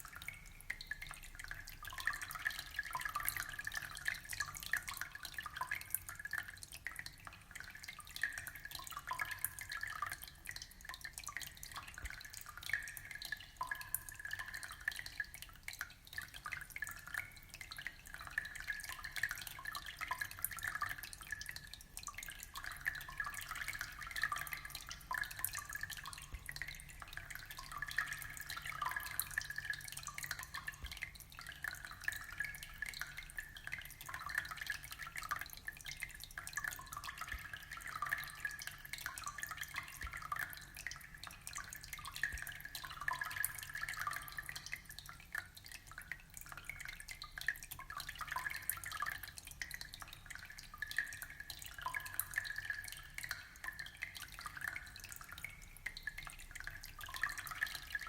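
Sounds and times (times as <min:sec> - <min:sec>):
aquarium water trickling and bubbling: 0:00.0 - 0:58.0.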